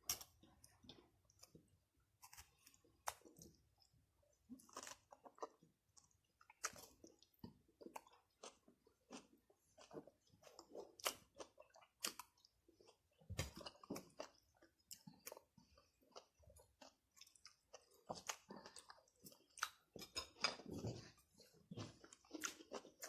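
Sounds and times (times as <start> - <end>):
crisp food crunching: 4.5 - 23.0.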